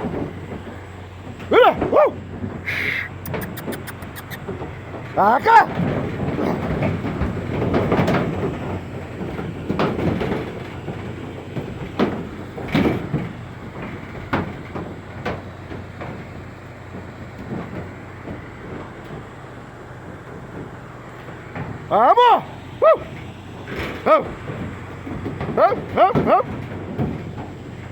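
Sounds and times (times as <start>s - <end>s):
hooves clattering on metal floor: 0.0s - 27.9s.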